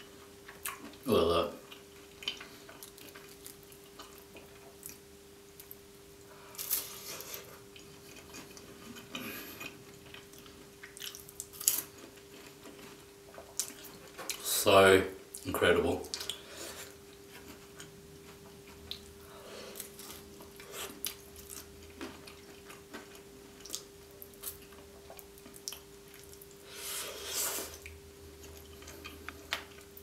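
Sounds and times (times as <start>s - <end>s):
faint steady hum: 0.0s - 30.0s
chewing food: 0.2s - 1.0s, 1.6s - 5.0s, 6.6s - 14.5s, 16.0s - 26.6s, 27.6s - 30.0s.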